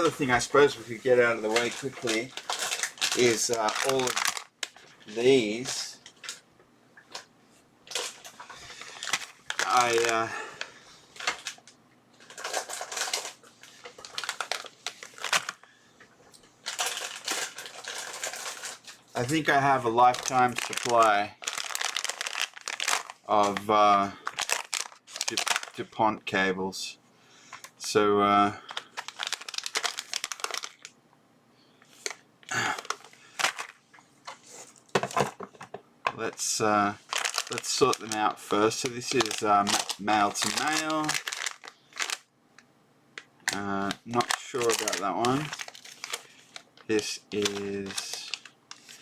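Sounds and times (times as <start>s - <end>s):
plastic packets crinkling: 0.0s - 6.4s, 7.9s - 15.8s, 16.4s - 26.0s, 28.5s - 31.0s, 31.8s - 42.3s, 43.2s - 49.0s.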